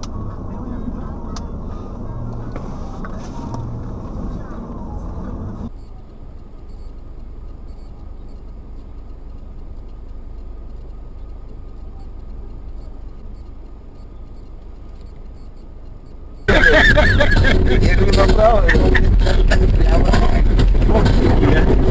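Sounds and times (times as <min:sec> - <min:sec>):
car engine and road noise: 0:00.0 - 0:21.9.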